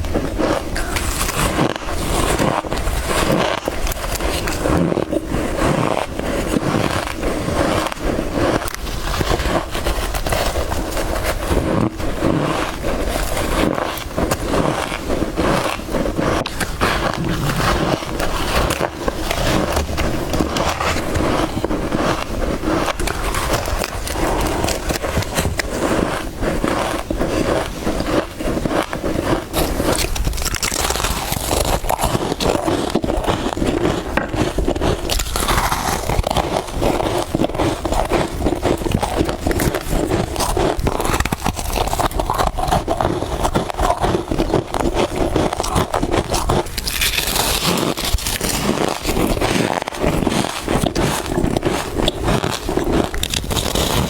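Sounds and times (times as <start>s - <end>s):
chewing crunchy frost: 0.0s - 54.0s.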